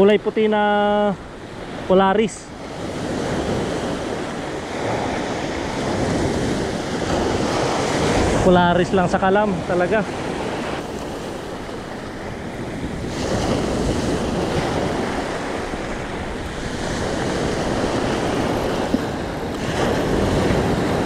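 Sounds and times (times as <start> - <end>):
surf breaking on stony beach: 0.0 - 21.0
wind buffeting microphone: 0.0 - 21.0.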